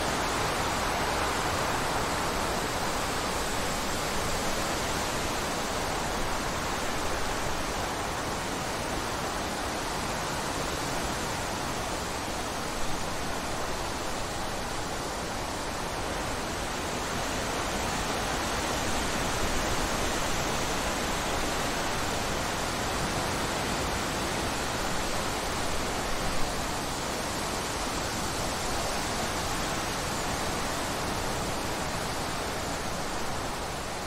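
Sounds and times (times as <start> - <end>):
wind blowing through trees: 0.0 - 34.0.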